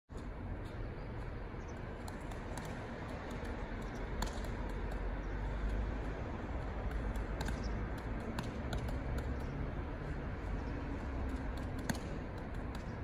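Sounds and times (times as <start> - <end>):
low outdoor rumble: 0.1 - 13.0.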